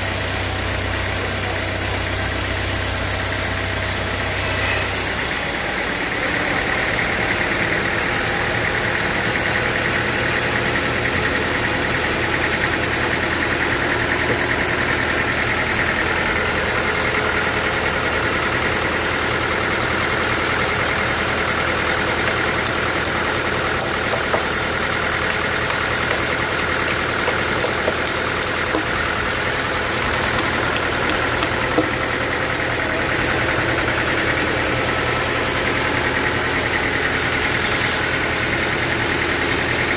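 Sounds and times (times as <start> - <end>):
sawmill engine whining: 0.0 - 39.9.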